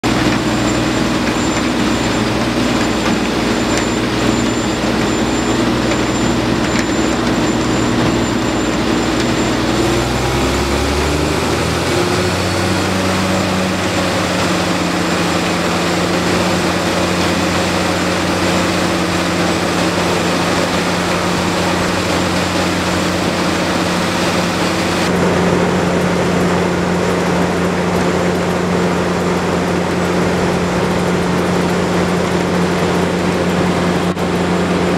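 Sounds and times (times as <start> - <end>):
heavy diesel engine drone: 0.0 - 34.9.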